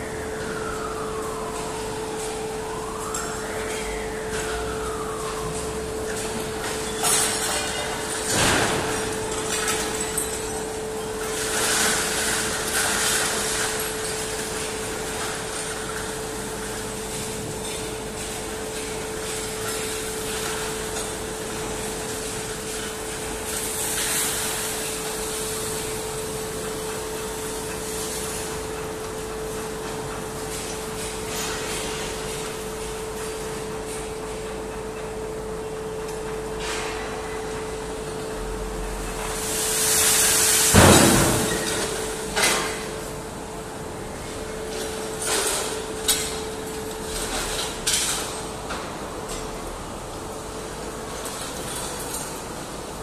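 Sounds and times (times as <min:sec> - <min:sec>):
steel mill machinery din: 0:00.0 - 0:52.9
constant hum: 0:00.0 - 0:53.0.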